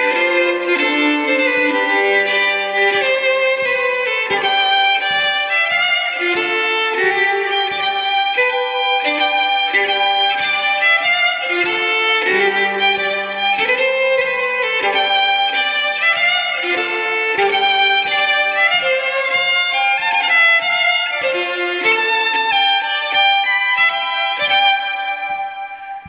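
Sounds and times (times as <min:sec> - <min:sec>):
lively solo fiddle tune: 0:00.0 - 0:26.0.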